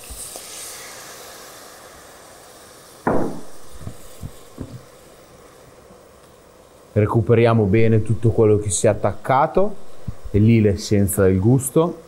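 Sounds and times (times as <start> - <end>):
wine sizzling in hot pan: 0.0 - 12.0.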